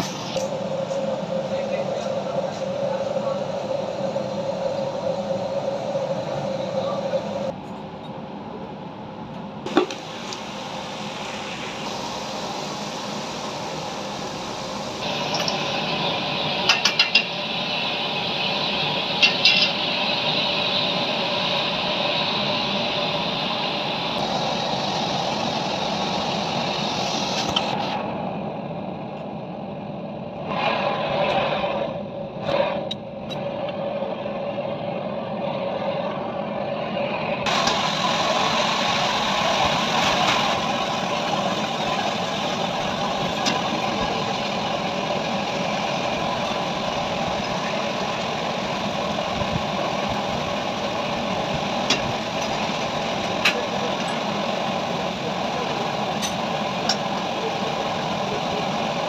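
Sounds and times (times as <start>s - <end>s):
gas torch flame rushing: 0.0s - 7.5s, 9.6s - 28.3s, 30.3s - 59.0s.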